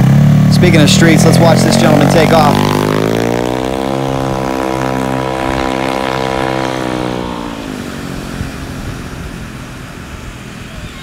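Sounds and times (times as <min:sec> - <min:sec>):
scooter engine pulling away: 0:00.0 - 0:11.0.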